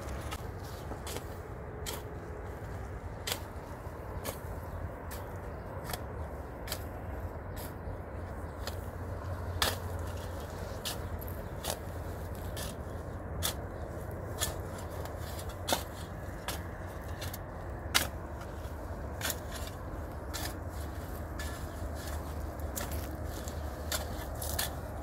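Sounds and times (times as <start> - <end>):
shovel scraping stony soil: 0.0 - 6.1, 8.5 - 25.0.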